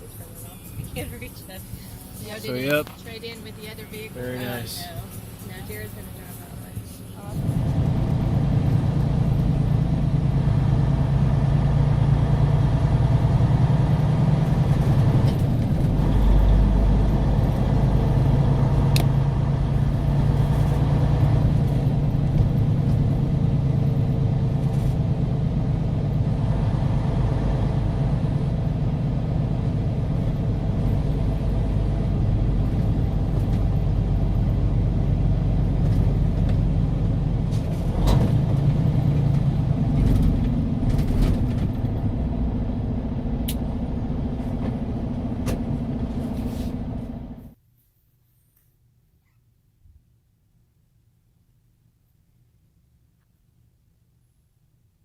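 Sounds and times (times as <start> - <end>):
road and engine noise inside car: 0.0 - 47.6.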